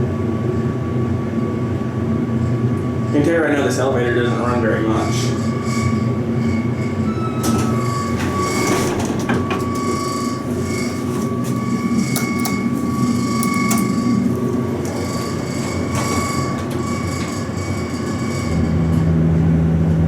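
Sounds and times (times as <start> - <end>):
low machinery rumble: 0.0 - 20.0
steady high whine: 0.0 - 20.0.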